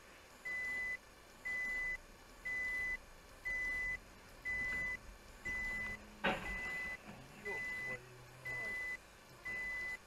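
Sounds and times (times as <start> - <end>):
faint low engine rumble: 0.0 - 10.0
car warning beeps: 0.4 - 10.0.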